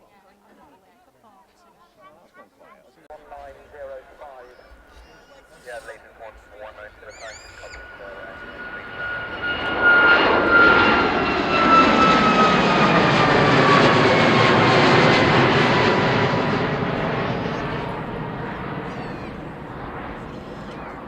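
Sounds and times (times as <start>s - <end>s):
jet aircraft passing: 3.1s - 21.0s.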